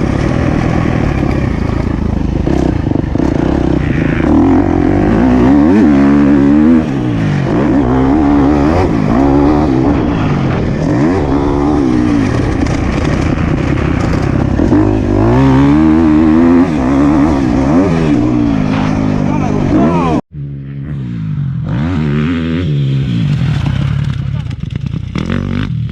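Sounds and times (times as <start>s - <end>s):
motocross bike engine revving: 0.0s - 25.9s.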